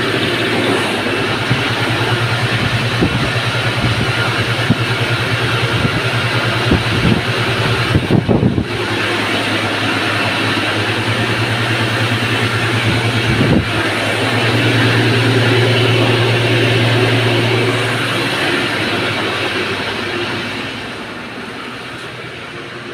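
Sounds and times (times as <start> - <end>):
flour mill humming and grinding: 0.0 - 22.9.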